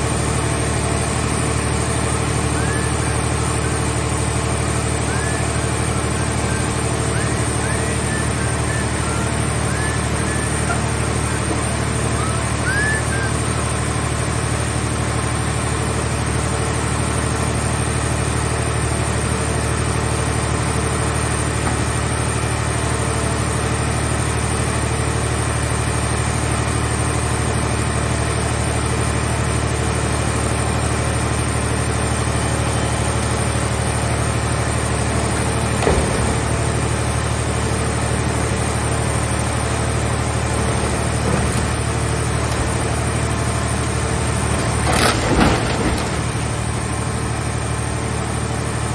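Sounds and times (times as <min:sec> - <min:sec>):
hydraulic power unit humming: 0:00.0 - 0:48.9.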